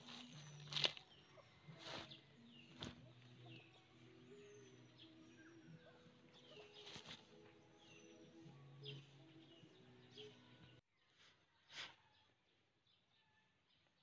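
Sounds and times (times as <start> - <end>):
faint bird chirps: 0.0 - 12.4.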